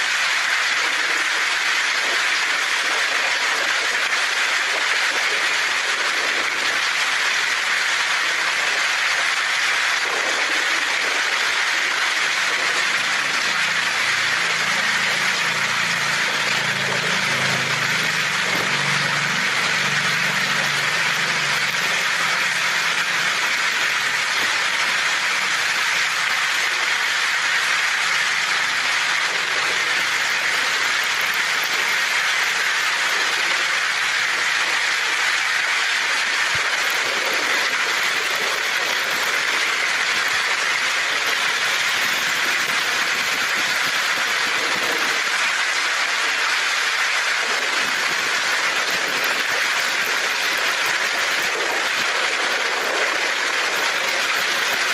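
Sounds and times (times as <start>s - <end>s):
heavy rain on a tin roof: 0.0s - 54.9s.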